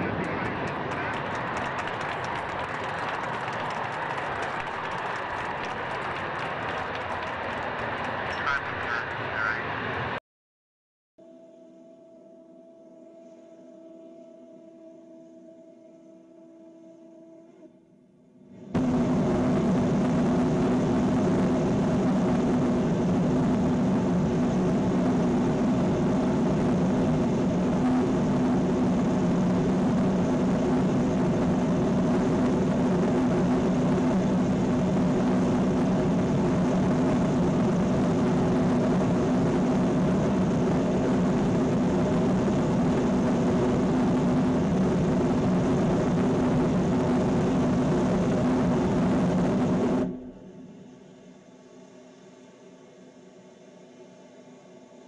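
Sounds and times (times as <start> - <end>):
low droning hum: 0.0 - 10.2, 18.3 - 55.0.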